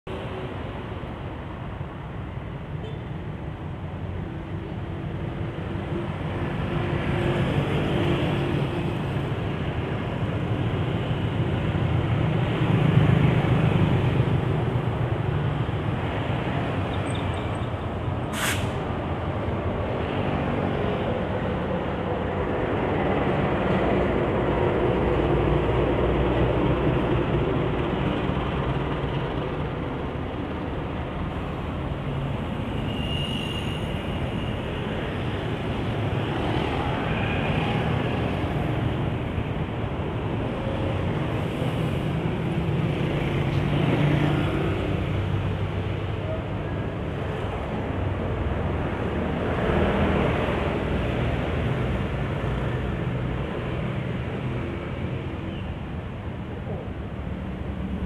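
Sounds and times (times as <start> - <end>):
street traffic: 0.0 - 58.0.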